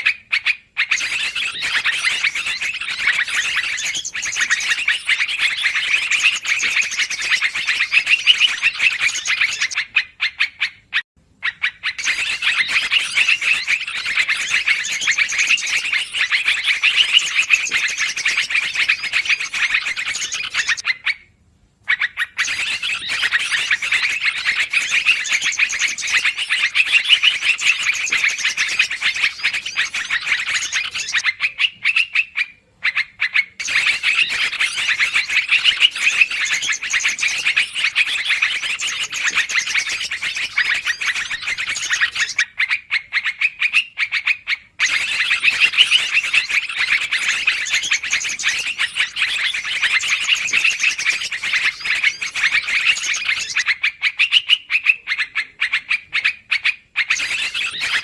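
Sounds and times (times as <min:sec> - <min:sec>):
bulbuls chattering calls: 0:00.0 - 0:21.0, 0:22.0 - 0:58.0.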